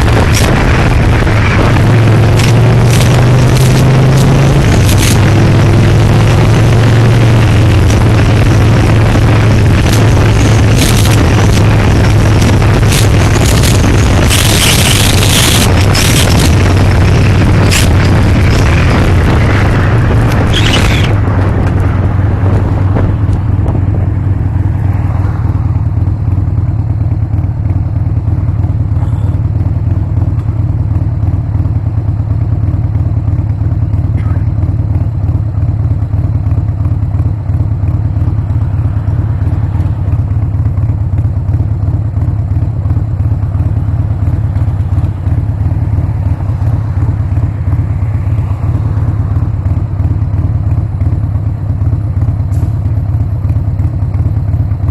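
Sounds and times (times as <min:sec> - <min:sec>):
motorcycle engine droning: 0:00.0 - 0:54.9.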